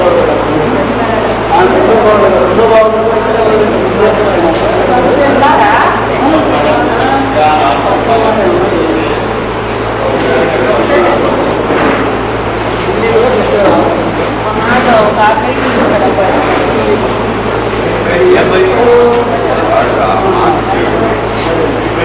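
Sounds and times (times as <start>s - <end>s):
high-pitched whine: 0.0s - 22.0s
murmur of voices: 0.0s - 22.0s.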